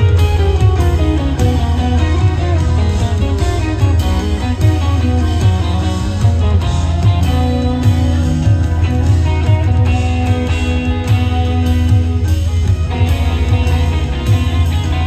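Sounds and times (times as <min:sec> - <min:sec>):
electric twelve-string guitar: 0:00.0 - 0:15.0
rock band playing: 0:00.0 - 0:15.0.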